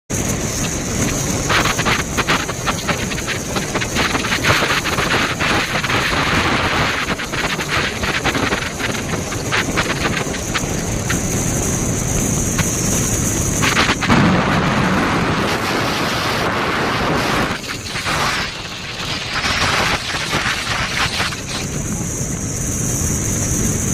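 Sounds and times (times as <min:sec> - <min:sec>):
sharp crackles and pops: 0:00.1 - 0:23.9
stormy rushing noise: 0:00.1 - 0:23.9.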